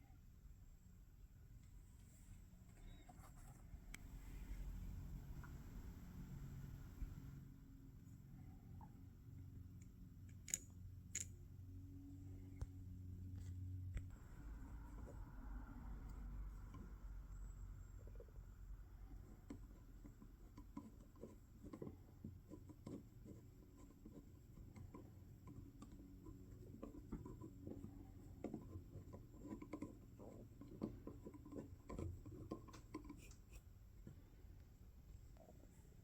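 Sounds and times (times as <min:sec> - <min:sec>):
faint clicks and scratching: 0:01.4 - 0:07.4, 0:12.3 - 0:36.0.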